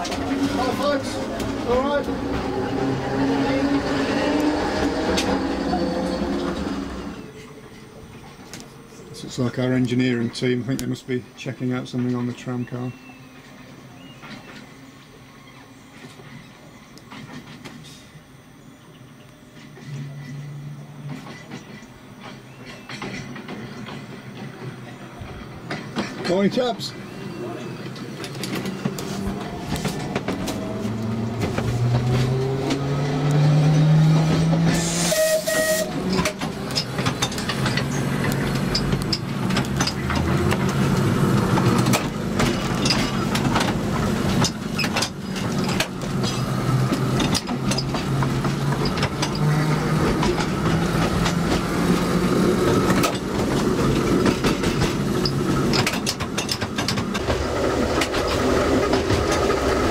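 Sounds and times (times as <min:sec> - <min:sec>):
electric tram motor whine: 0:00.0 - 0:10.0, 0:12.6 - 0:59.9
wheels clicking over rail joints: 0:00.0 - 0:18.1, 0:19.2 - 0:59.9.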